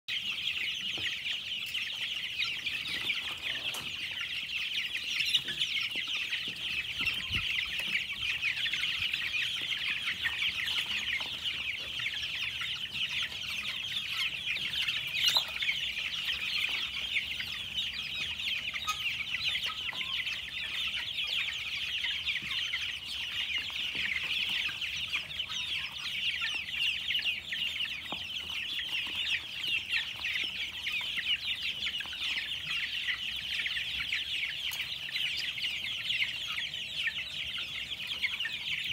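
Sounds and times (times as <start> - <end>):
chicks peeping: 0.1 - 38.9.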